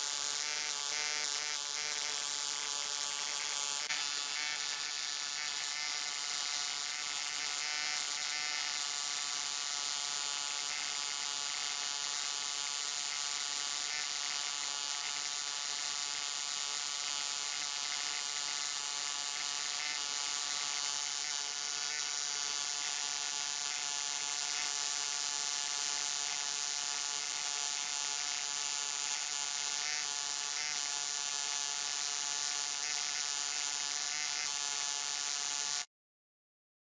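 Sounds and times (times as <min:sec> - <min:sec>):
electric arc buzzing: 0:00.0 - 0:35.9.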